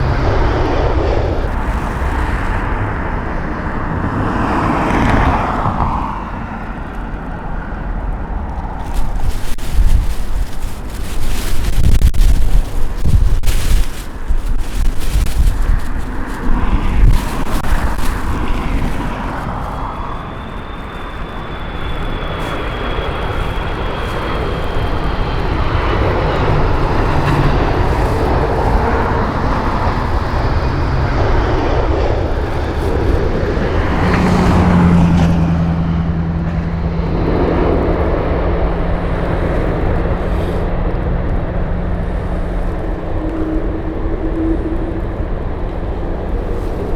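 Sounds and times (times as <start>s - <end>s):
jet engines whining and rumbling: 0.0s - 46.9s
wind buffeting microphone: 0.0s - 46.9s.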